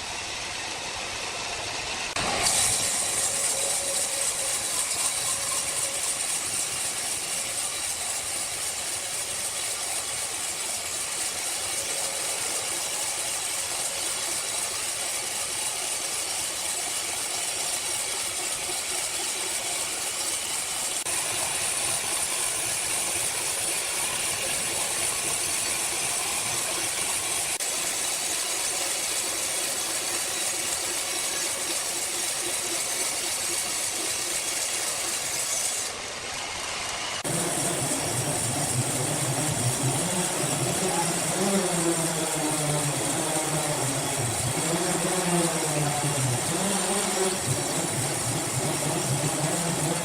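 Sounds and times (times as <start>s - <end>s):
sawmill machinery running: 0.0s - 50.0s.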